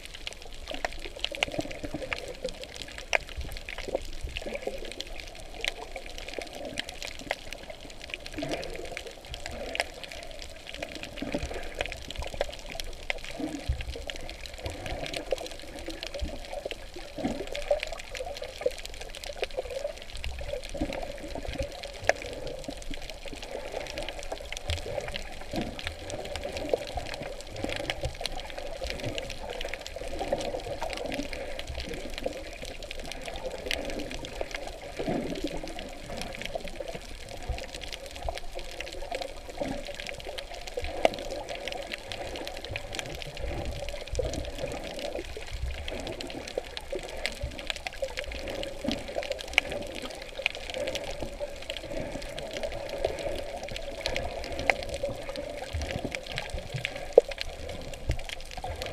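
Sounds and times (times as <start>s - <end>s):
water sloshing and gurgling: 0.0s - 58.9s.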